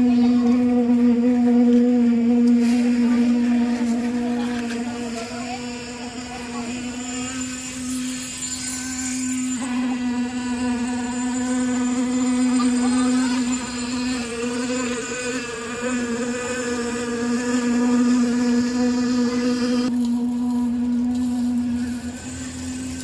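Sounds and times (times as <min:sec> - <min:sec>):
small motor buzzing hum: 0:00.0 - 0:23.0.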